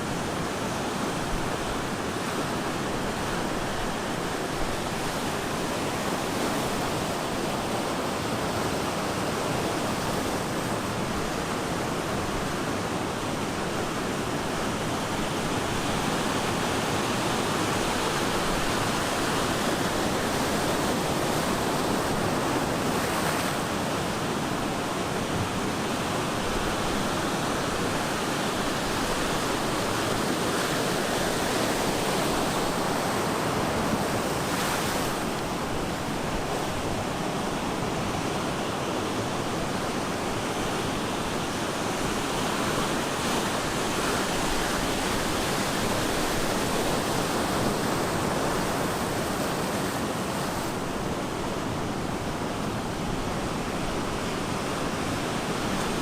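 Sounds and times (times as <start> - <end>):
ocean surf roaring: 0.0 - 56.0.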